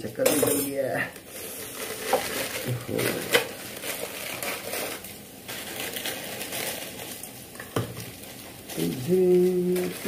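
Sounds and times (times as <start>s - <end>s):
plastic packet crinkling: 1.2s - 10.0s.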